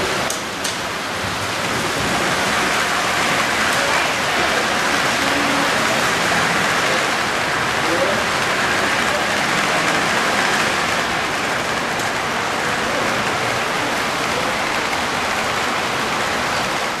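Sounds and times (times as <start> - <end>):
model trains rolling on rails: 0.0 - 17.0.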